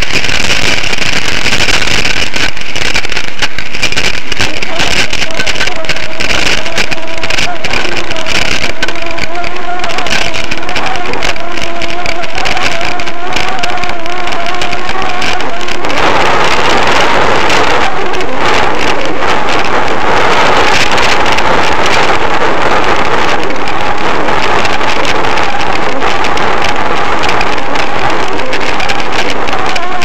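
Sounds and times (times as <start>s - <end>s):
wind and road noise: 0.0s - 30.0s
wavering tone: 4.3s - 30.0s.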